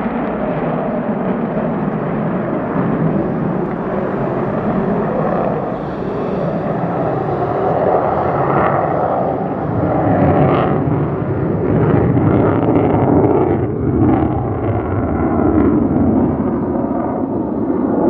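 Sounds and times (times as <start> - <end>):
jet rumbling in flight: 0.0 - 18.0.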